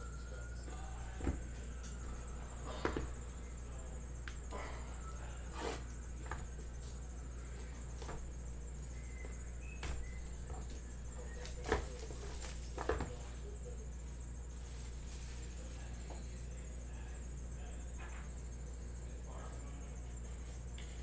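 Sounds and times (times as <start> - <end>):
steady low hum: 0.0 - 21.0
thin high-pitched whine: 0.0 - 21.0.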